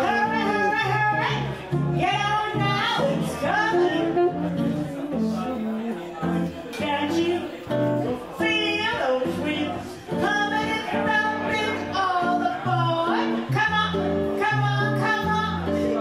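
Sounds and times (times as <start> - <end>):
woman singing into microphone: 0.0 - 4.7, 6.7 - 16.0
alto saxophone: 0.0 - 16.0
electric guitar accompaniment: 0.0 - 16.0.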